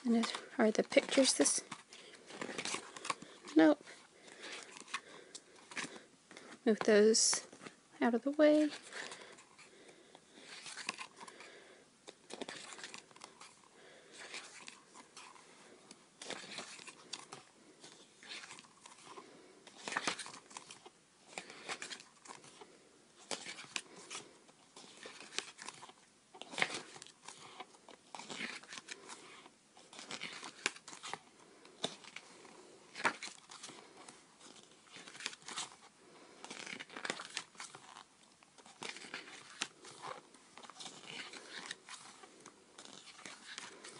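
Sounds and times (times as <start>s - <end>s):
paper and plastic rustling: 0.0s - 43.9s.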